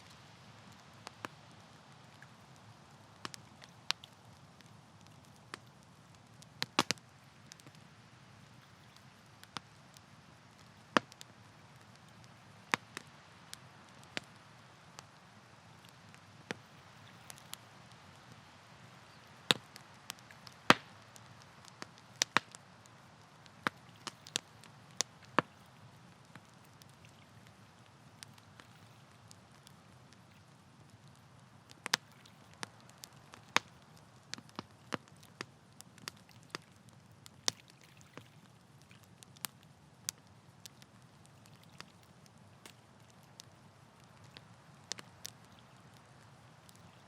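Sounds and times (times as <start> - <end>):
campfire crackling and popping: 0.0 - 47.0
faint steady hiss: 0.0 - 47.0.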